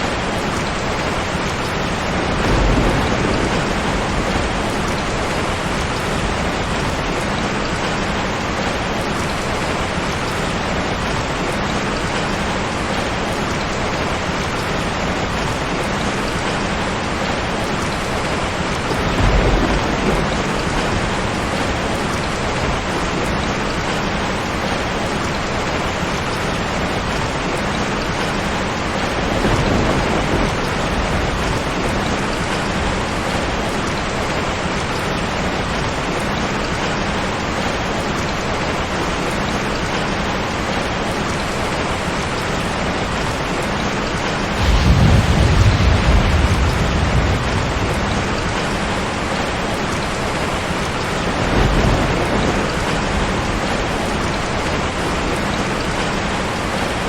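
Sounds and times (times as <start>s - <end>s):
thunder rumbling: 0.0s - 25.6s, 26.6s - 36.2s, 43.1s - 57.0s
steady rain: 0.0s - 57.0s.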